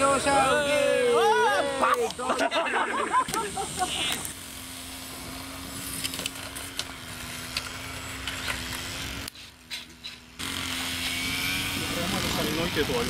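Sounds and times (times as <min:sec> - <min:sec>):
electric motor and propeller hum: 0:00.0 - 0:13.0.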